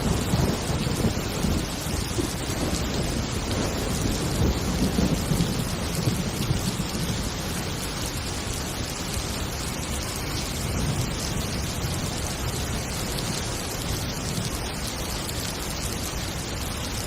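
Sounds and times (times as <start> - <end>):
low thunder rumble: 0.0 - 16.5
heavy rain falling: 0.0 - 17.0.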